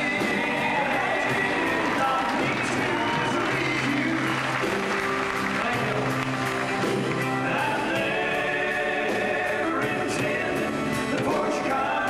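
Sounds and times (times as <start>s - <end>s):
male voices singing in harmony: 0.0s - 5.0s, 7.2s - 12.0s
country band playing: 0.0s - 12.0s.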